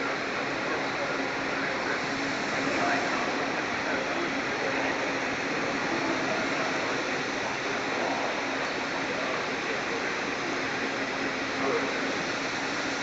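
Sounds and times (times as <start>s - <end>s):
cnc router rushing noise: 0.0s - 13.0s.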